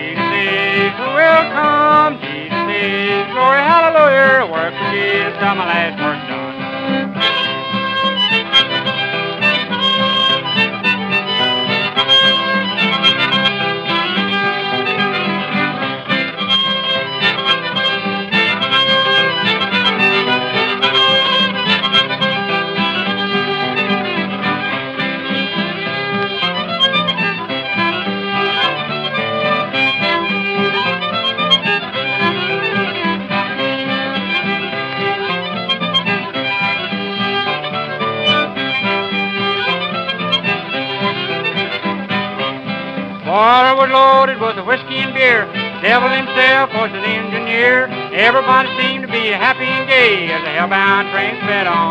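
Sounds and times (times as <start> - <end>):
harmonica playing held notes: 0.0 - 51.9
strummed acoustic guitar: 0.0 - 51.9.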